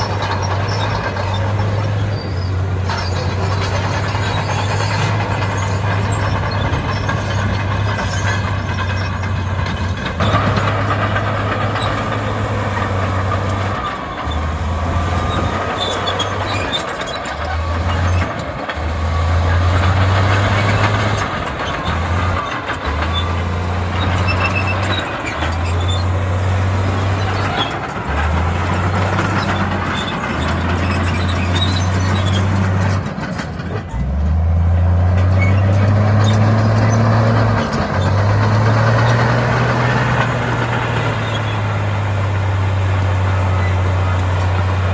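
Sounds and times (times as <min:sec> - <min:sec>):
bulldozer diesel engine: 0:00.0 - 0:44.9
gritty clatter: 0:00.0 - 0:44.9.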